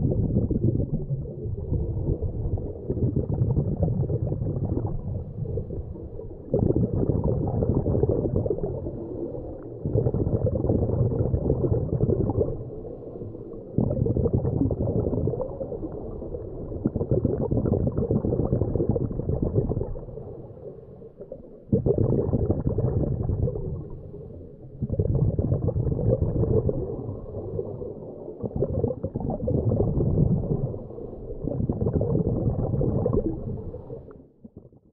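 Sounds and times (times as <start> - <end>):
muffled underwater bubbling: 0.0 - 34.9.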